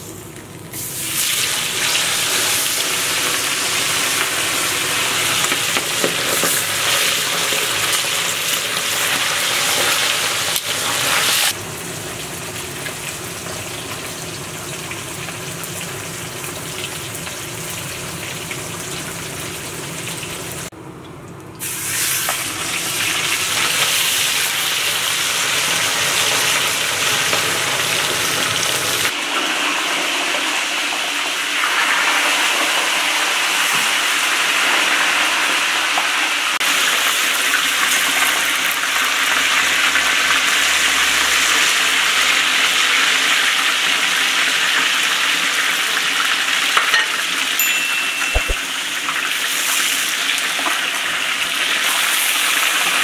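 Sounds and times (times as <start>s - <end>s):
meat frying in hot oil: 0.0s - 20.7s, 21.6s - 47.6s, 48.4s - 53.0s.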